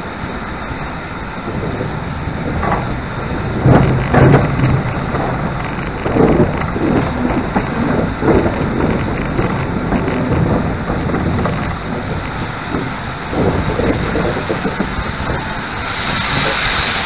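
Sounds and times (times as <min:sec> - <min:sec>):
steam locomotive exhaust beats: 0:00.0 - 0:17.0
wind rumble on microphone: 0:00.0 - 0:17.0.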